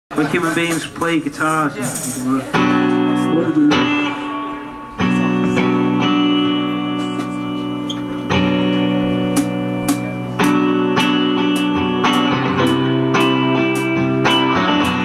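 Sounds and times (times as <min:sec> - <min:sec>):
electric guitars strumming chords: 0:00.5 - 0:15.0.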